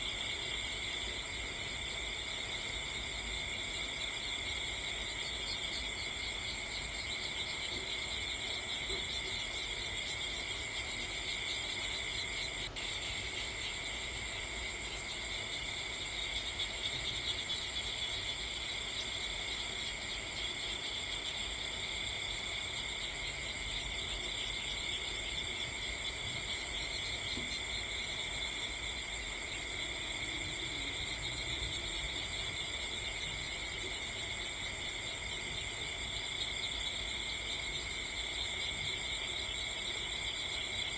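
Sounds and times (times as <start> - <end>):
background hiss: 0.0 - 40.9
crickets chirring: 0.0 - 40.9.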